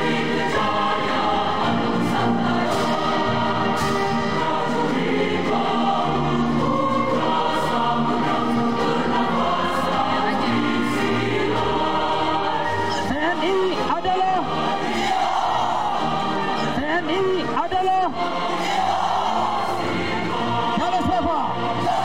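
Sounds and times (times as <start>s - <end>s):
choir singing sustained notes: 0.0s - 22.0s
instrumental accompaniment: 0.0s - 22.0s.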